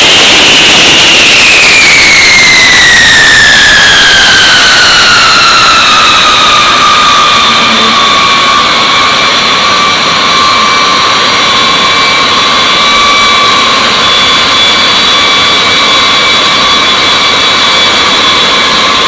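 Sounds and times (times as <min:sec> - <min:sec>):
high turbine whines: 0:00.0 - 0:19.0
jet engines roaring: 0:00.0 - 0:19.0.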